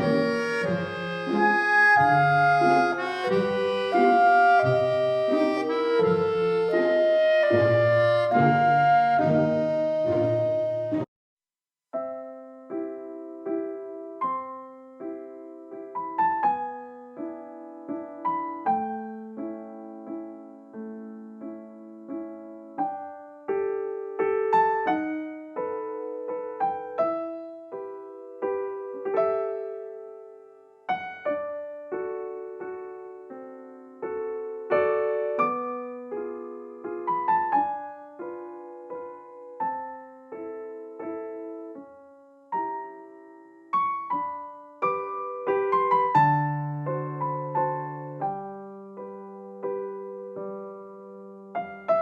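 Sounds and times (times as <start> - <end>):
slow gentle piano melody: 0.0 - 11.1, 12.0 - 52.0.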